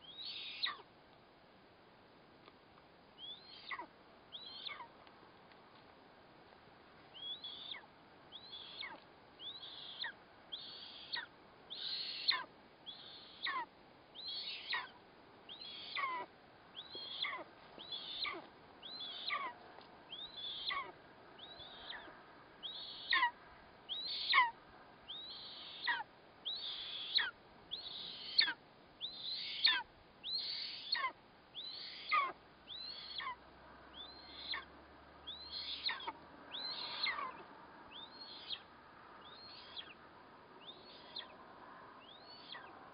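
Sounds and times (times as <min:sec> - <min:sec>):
eagle chick calling: 0:00.0 - 0:00.9, 0:03.2 - 0:05.0, 0:07.1 - 0:41.4, 0:42.0 - 0:42.9.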